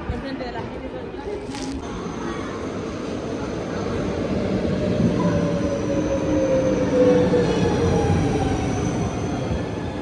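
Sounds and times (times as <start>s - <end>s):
electric train whine: 1.9s - 10.0s.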